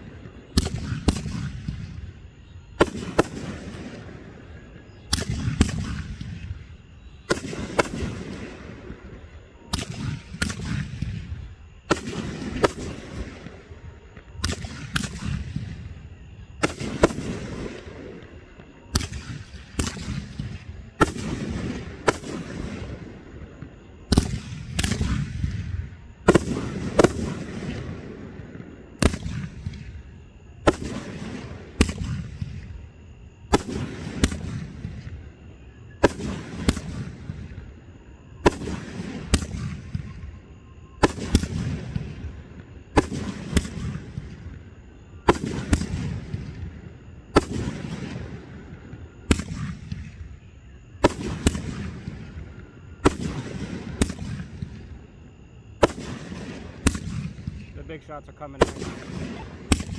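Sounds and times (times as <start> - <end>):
firework bangs: 0.0 - 35.3, 36.0 - 37.7, 38.4 - 40.3, 41.0 - 50.4, 51.0 - 55.0, 55.8 - 59.9.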